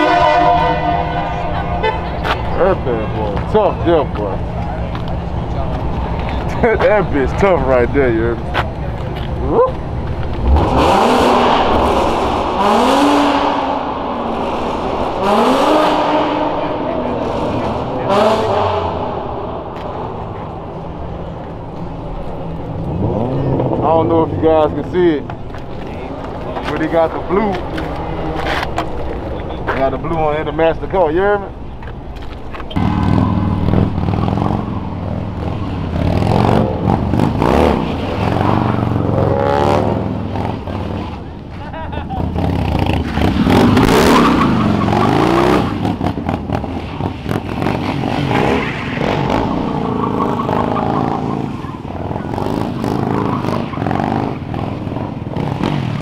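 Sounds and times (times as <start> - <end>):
car engine revving: 0.0 - 31.6, 32.6 - 41.4, 42.0 - 56.0.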